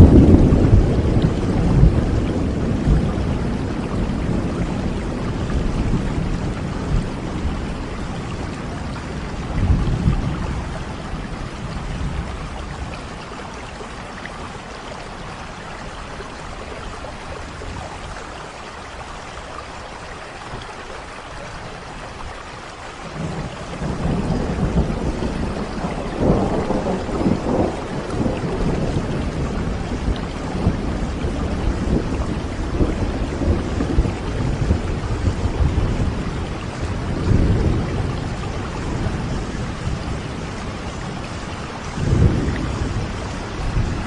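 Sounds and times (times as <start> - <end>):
low rumble of thunder: 0.0 - 19.2, 23.0 - 44.0
steady rain: 0.0 - 44.0.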